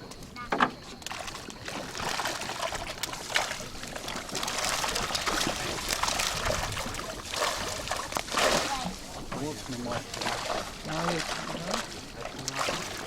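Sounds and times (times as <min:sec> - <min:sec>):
sea water splashing: 0:00.2 - 0:13.0.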